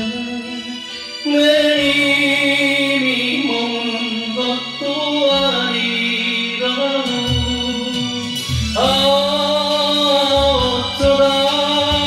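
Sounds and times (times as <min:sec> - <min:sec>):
electronic keyboard chords: 0:00.0 - 0:12.0
man singing slow ballad: 0:00.0 - 0:12.0.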